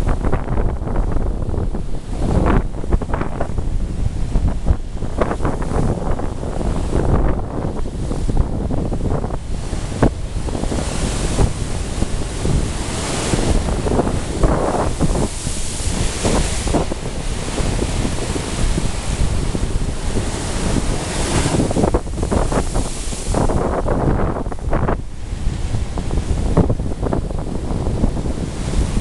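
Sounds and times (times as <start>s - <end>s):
surf breaking over rocks: 0.0s - 29.0s
wind rumbling on microphone: 0.0s - 29.0s.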